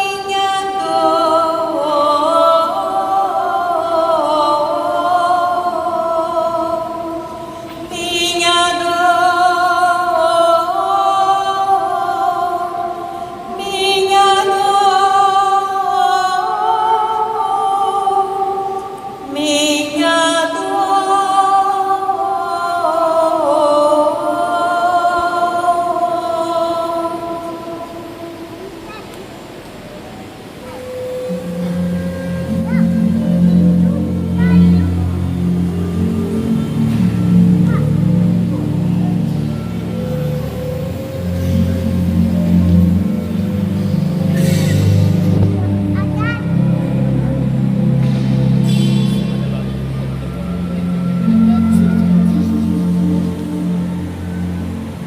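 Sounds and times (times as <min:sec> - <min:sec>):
choir singing a hymn: 0:00.0 - 0:29.6, 0:30.2 - 0:55.0.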